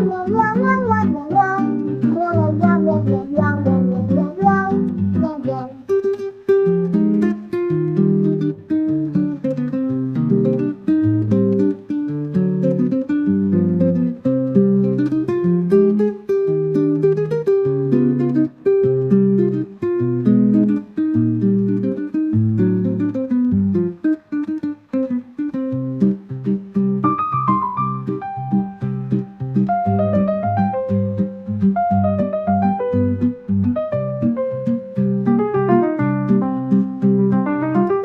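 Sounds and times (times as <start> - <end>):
acoustic guitar playing: 0.0 - 38.0.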